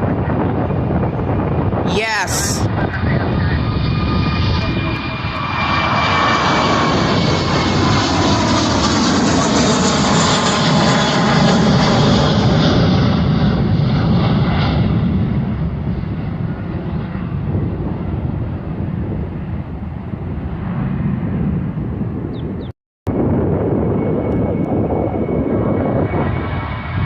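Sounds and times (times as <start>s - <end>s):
jet engines roaring on takeoff: 0.0s - 27.0s.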